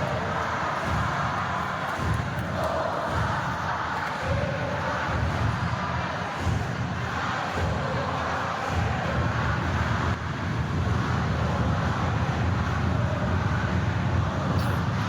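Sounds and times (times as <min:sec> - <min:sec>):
crowd din: 0:00.0 - 0:15.0.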